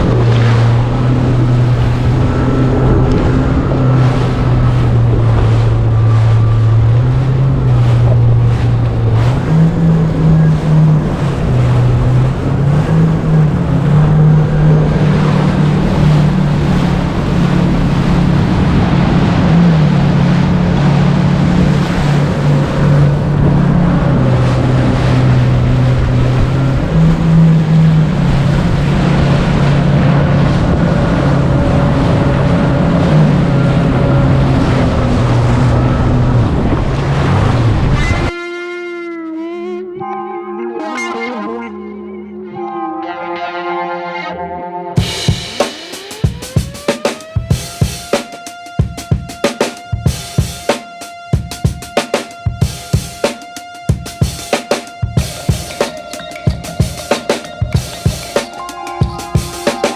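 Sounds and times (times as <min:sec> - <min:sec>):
rushing water: 0:00.0 - 0:38.4, 0:45.0 - 0:59.9
jet ski engine: 0:00.0 - 0:59.9.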